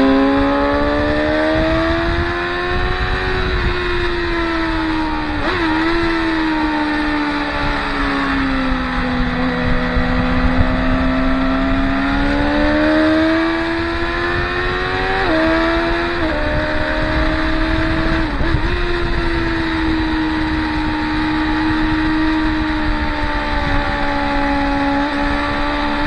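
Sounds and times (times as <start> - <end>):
motorcycle engine shifting gears: 0.0 - 26.0.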